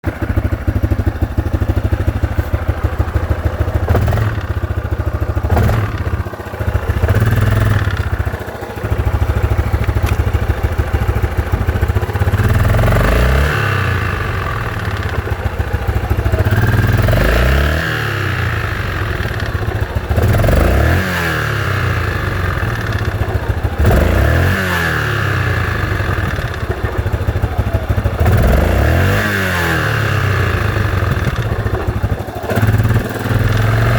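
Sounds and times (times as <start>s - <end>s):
engine idling and revving: 0.0s - 33.9s.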